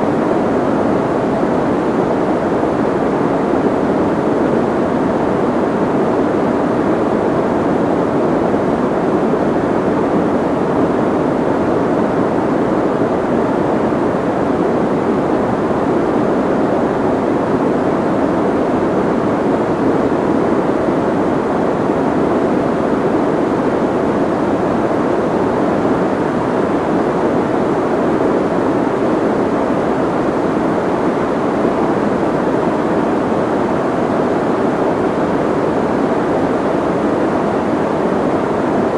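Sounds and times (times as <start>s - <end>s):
soft white noise: 0.0s - 38.9s.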